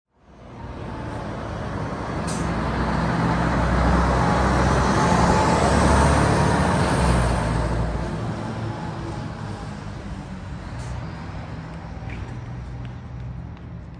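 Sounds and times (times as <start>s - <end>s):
diesel truck driving past: 0.2s - 13.9s.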